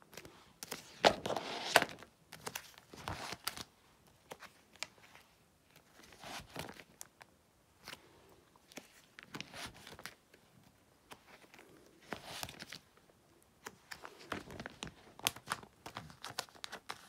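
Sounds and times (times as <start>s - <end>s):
plastic sleeve pages rustling: 0.0s - 17.0s.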